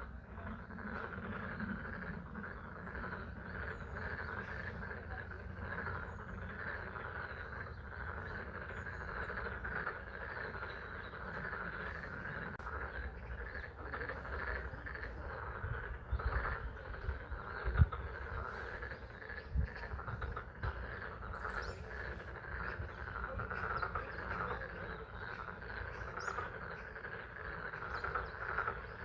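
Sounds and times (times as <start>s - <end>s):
frogs chorus calling: 0.0s - 29.0s.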